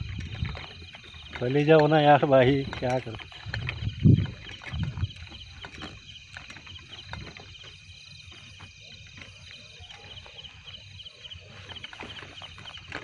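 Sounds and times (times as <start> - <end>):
crickets chirping: 0.0 - 13.0
footsteps crunching on dirt path: 0.0 - 13.0.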